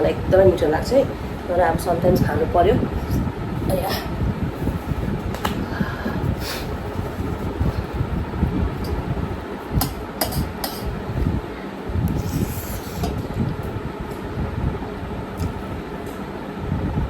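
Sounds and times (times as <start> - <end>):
air rumbling on microphone: 0.0 - 17.0.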